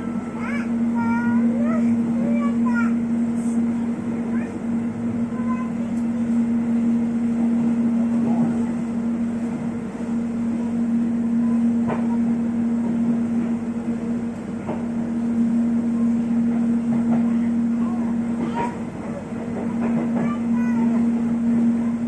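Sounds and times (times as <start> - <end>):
train hum and rumble: 0.0 - 22.0.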